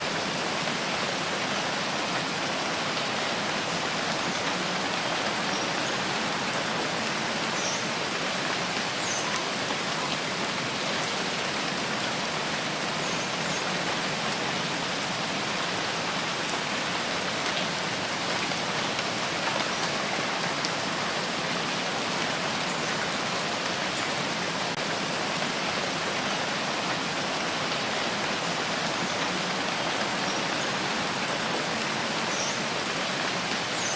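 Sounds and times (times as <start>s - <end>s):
rain falling steadily: 0.0s - 33.9s.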